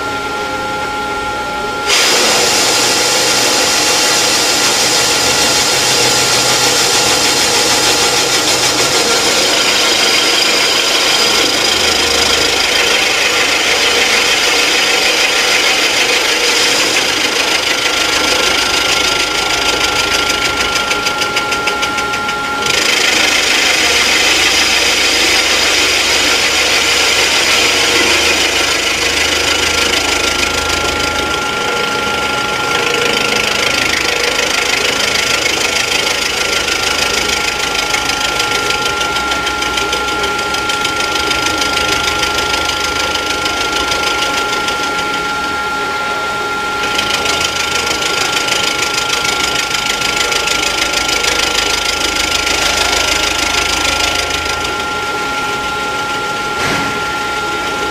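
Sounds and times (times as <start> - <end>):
machine cutting metal: 0.0 - 57.9.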